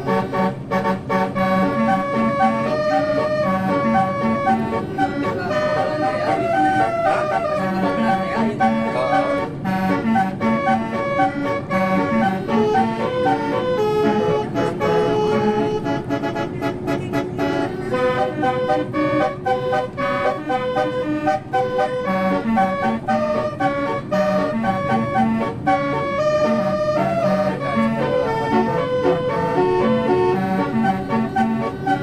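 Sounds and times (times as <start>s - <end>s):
multi-tone musical bus horn: 0.0s - 32.0s.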